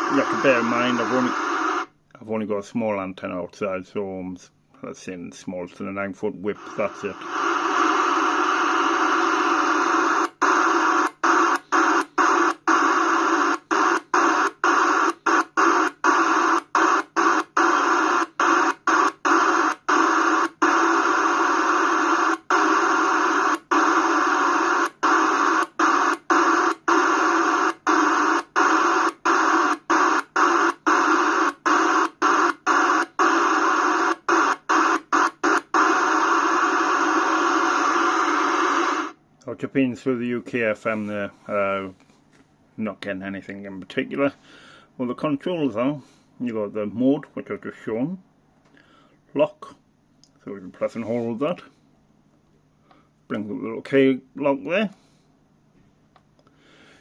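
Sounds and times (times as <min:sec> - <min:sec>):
radio static hiss: 0:00.0 - 0:42.0, 0:42.8 - 0:48.2, 0:50.4 - 0:51.8.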